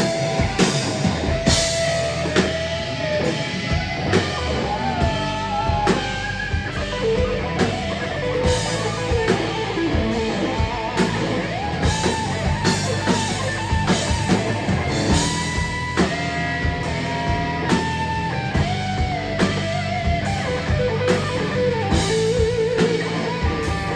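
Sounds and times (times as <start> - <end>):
drum kit beat: 0.0 - 23.9
rock band playing live: 0.0 - 23.9
sliding lead guitar notes: 0.0 - 23.9.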